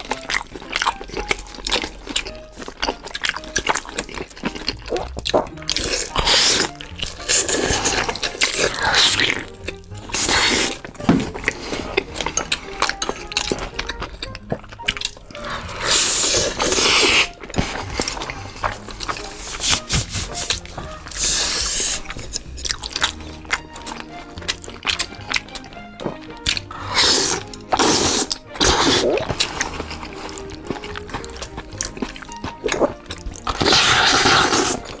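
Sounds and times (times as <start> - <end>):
noodles slurped: 0.0 - 35.0
wet chewing and lip-smacking: 0.0 - 35.0.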